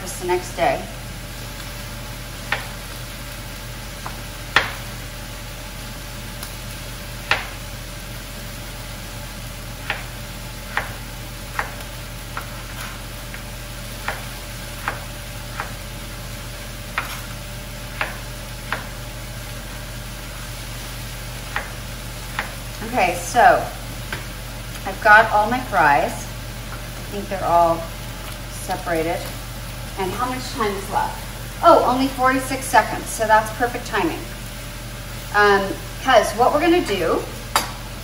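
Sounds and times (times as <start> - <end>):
vegetables sizzling in pan: 0.0 - 38.0.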